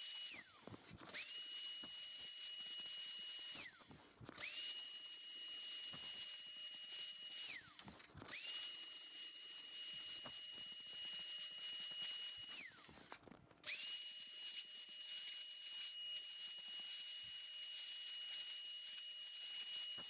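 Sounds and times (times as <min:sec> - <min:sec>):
electric air blower whining: 0:00.0 - 0:20.0.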